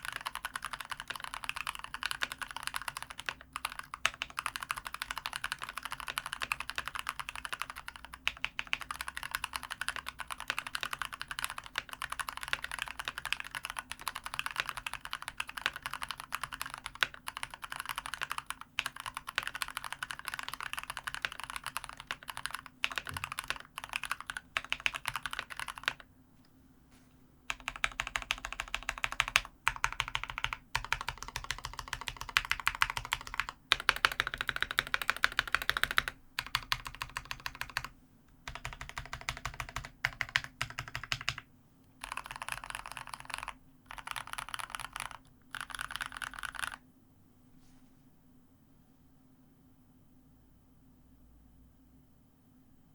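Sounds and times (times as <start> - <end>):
fast typing on mechanical keyboard: 0.0 - 26.1, 27.5 - 46.8.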